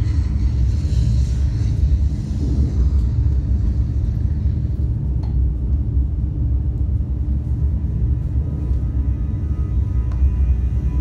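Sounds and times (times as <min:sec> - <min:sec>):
deep steady rumble: 0:00.0 - 0:11.0.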